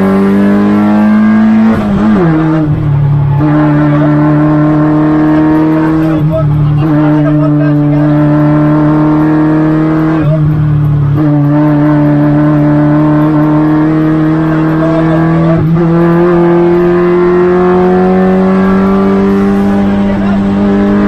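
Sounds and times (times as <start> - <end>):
race car engine pulling hard: 0.0 - 21.0.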